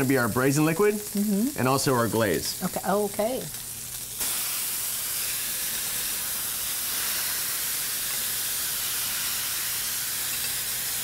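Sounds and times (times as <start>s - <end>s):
liquid boiling with loud hiss: 0.0s - 11.0s.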